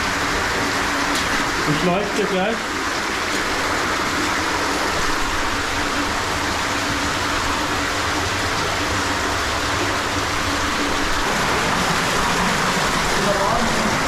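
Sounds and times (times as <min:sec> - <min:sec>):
rushing cave stream: 0:00.0 - 0:14.0.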